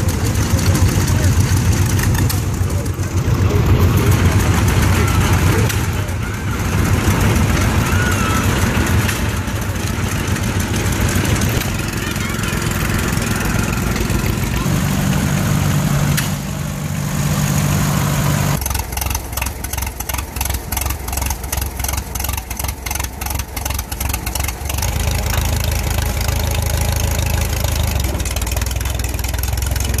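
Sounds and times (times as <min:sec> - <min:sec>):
old tractor engine firing slowly: 0:00.0 - 0:30.0
tractor engine running: 0:00.0 - 0:30.0.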